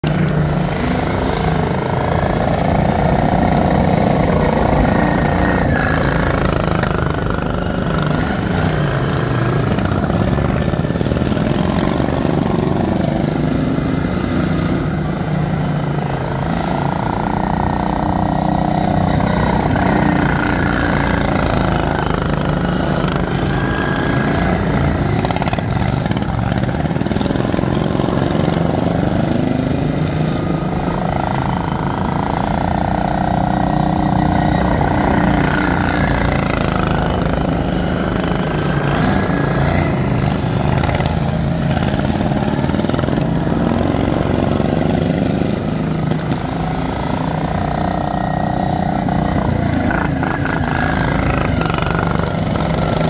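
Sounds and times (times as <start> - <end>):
small engines racing: 0.0 - 53.0.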